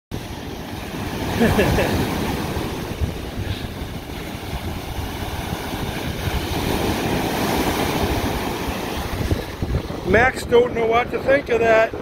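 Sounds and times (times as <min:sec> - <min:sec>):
ocean surf breaking: 0:00.1 - 0:12.0
wind buffeting microphone: 0:00.2 - 0:12.0.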